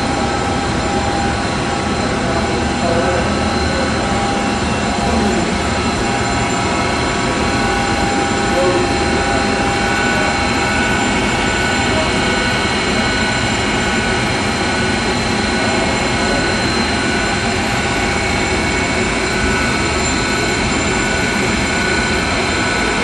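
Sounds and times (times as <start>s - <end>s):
high whining tones: 0.0s - 23.0s.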